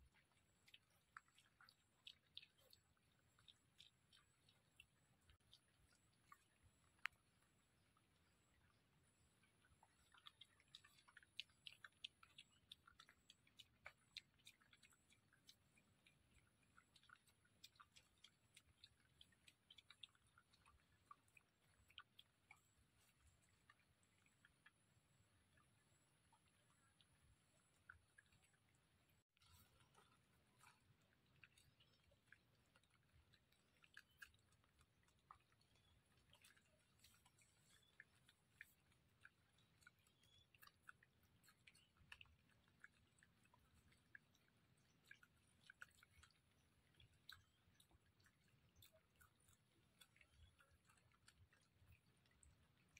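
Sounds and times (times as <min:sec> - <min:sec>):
piglet chewing leaves: 0:00.0 - 0:52.9.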